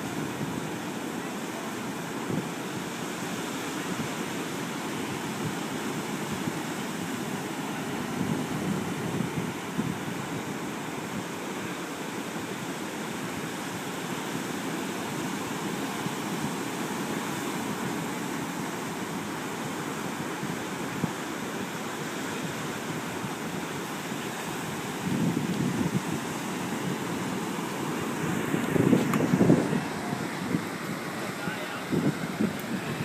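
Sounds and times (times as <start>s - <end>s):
waves breaking: 0.0s - 33.0s.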